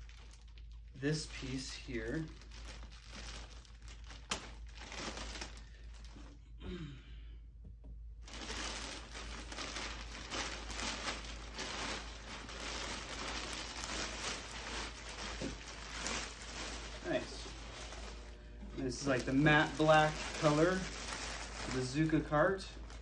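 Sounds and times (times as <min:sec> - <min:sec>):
packaging wrap crinkling: 0:00.0 - 0:06.4, 0:08.2 - 0:23.0.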